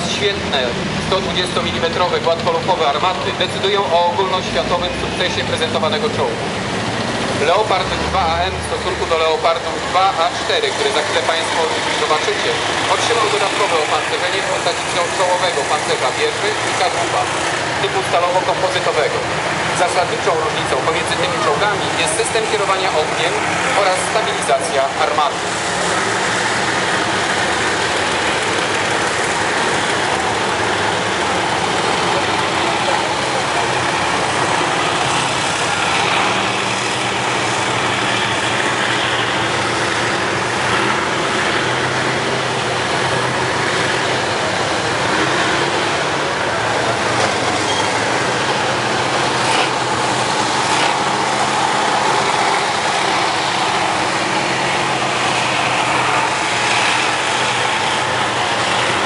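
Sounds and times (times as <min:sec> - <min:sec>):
steel tracks clanking: 0:00.0 - 0:59.0
tank diesel engines running: 0:00.0 - 0:59.0.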